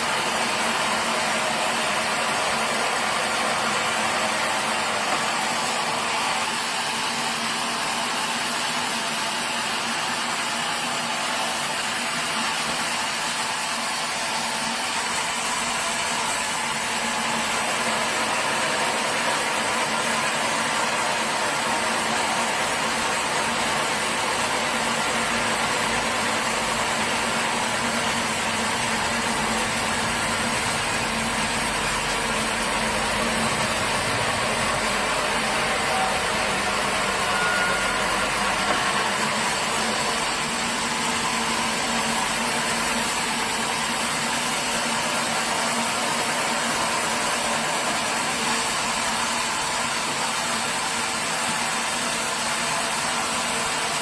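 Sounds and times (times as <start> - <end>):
sawmill engine droning: 0.0 - 54.0.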